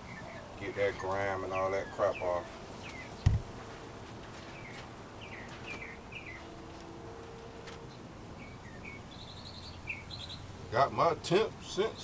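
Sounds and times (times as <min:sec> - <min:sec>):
birds chirping: 0:00.0 - 0:12.0
faint outdoor background noise: 0:00.0 - 0:12.0.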